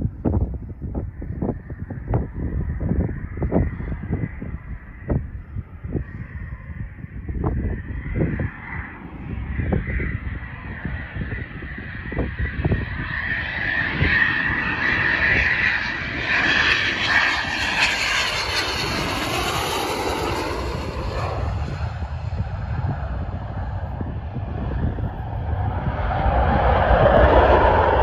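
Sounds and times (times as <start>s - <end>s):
jet aircraft passing low: 0.0s - 28.0s.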